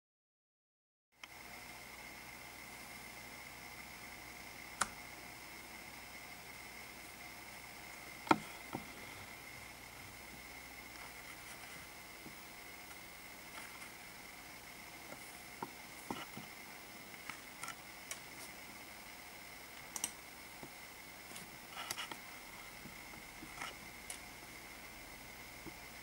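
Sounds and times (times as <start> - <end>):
room hiss: 1.2 - 26.0
thin high whine: 1.2 - 26.0.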